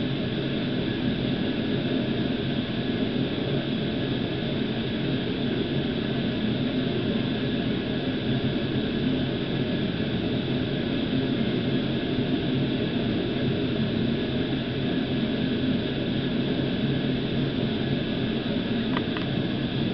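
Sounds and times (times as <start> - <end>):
steady mechanical hum: 0.0 - 19.9.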